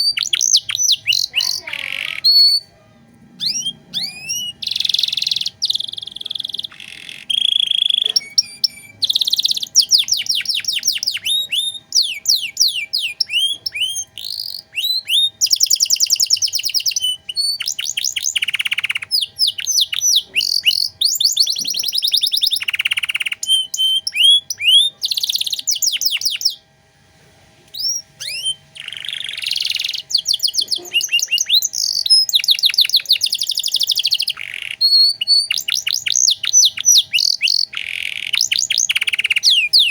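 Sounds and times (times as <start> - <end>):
canary singing: 0.0 - 26.7, 27.7 - 39.9.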